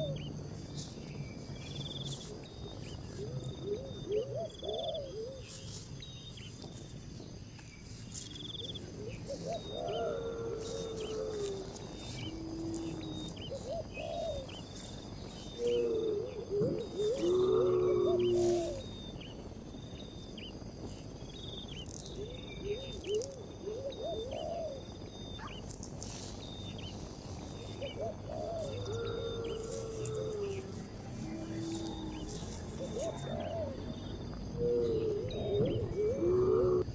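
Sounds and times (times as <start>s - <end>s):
insect chorus: 0.0s - 36.9s
low bird calls: 0.0s - 36.9s.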